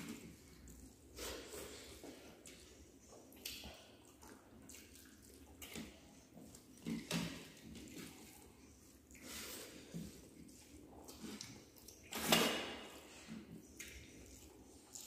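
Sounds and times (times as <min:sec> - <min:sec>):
wet chewing and smacking: 0:00.0 - 0:01.2, 0:02.0 - 0:12.2, 0:13.0 - 0:15.0.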